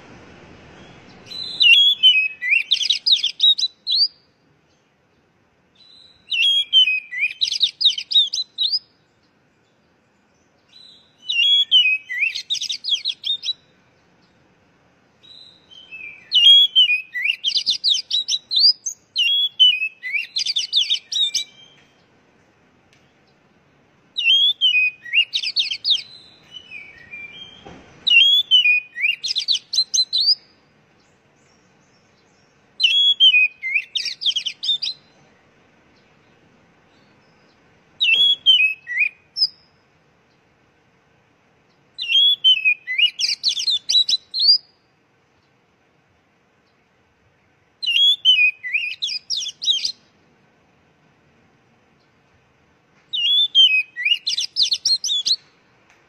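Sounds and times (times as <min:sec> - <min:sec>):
magpie-robin singing: 0:00.7 - 0:14.4, 0:15.2 - 0:22.1, 0:24.1 - 0:40.5, 0:41.7 - 0:45.6, 0:47.8 - 0:50.2, 0:53.1 - 0:55.6.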